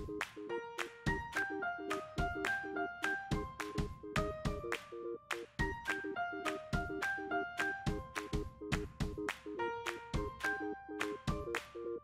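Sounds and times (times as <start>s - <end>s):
bright keyboard notes: 0.0s - 12.0s
music with steady beat: 0.0s - 12.0s.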